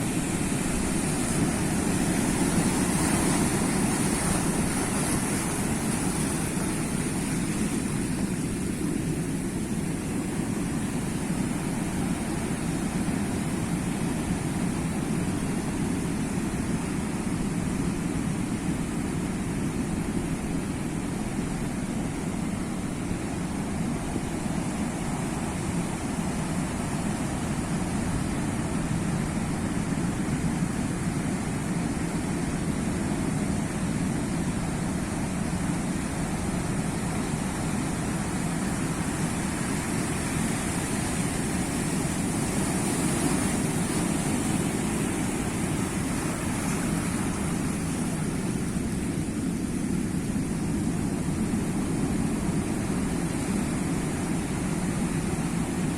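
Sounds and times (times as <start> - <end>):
sea waves surf: 0.0 - 55.9.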